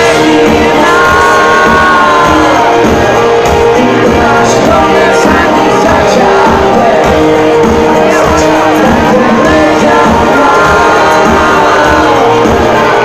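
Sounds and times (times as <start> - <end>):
drums with low kick beat: 0.0 - 13.0
electric guitar: 0.0 - 13.0
singer holding long note: 0.0 - 13.0.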